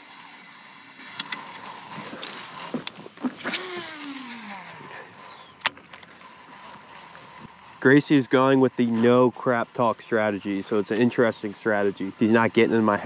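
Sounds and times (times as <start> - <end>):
fishing reel clicks: 0.0 - 13.0
fishing reel spool whining: 0.0 - 13.0.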